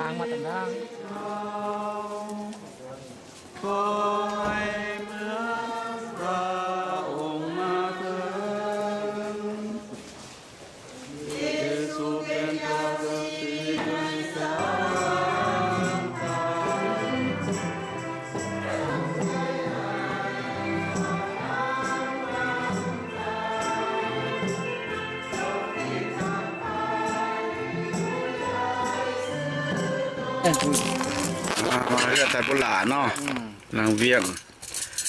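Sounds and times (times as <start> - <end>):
congregation and choir singing a hymn: 0.0 - 10.2, 11.0 - 32.4.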